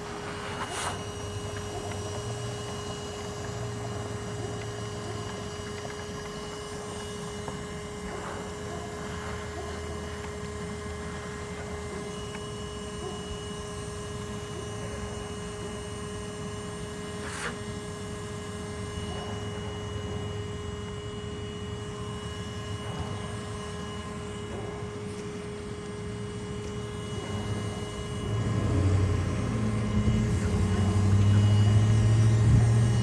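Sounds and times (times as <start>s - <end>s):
vacuum motor whine: 0.0s - 33.0s.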